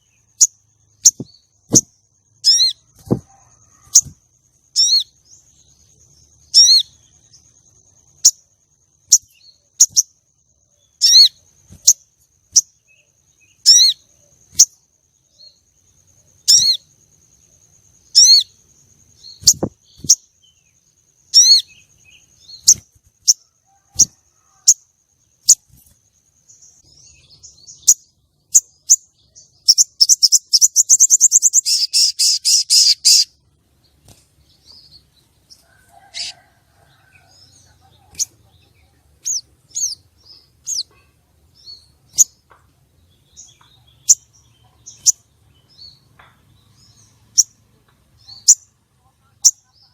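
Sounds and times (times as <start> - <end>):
bird chirping: 0.0 - 49.9.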